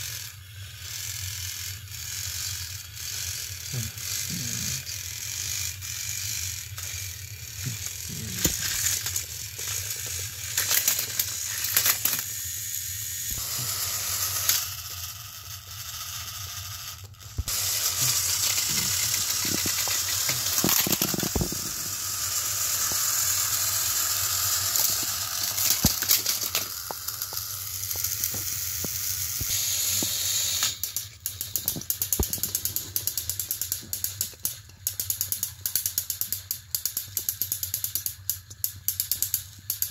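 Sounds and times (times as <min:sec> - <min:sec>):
plastic gears clicking and grinding: 0:00.0 - 0:39.9
toy train motors whirring: 0:00.0 - 0:39.9.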